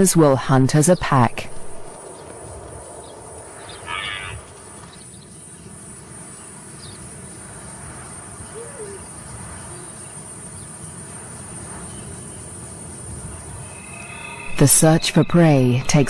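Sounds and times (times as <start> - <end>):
insects trilling: 1.9 - 16.0.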